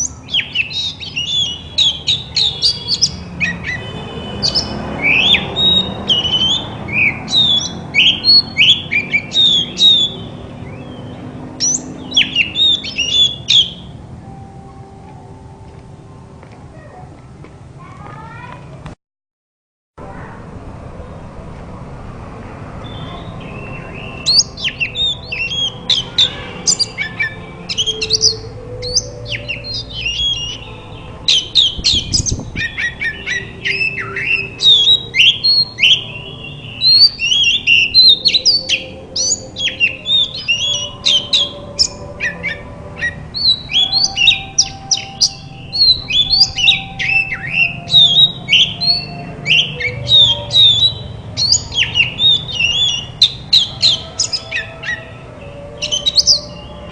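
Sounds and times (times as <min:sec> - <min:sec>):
bird singing whistles and chirps: 0:00.0 - 0:13.9, 0:22.8 - 0:56.9.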